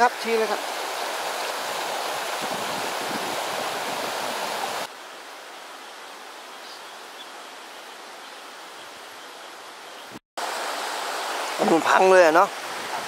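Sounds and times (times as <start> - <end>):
quiet hiss of water: 0.0 - 13.0
rushing flood water: 0.0 - 13.0.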